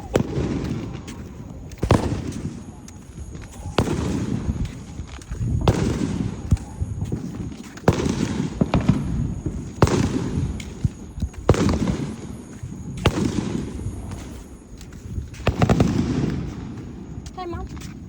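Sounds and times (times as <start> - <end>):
fireworks banging: 0.0 - 18.0.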